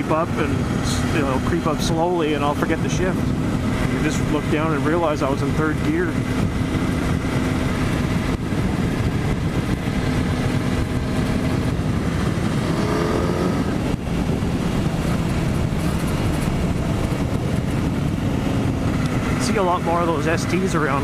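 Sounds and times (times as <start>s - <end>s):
motorcycle engine at road speed: 0.0s - 21.0s
wind rush: 0.0s - 21.0s.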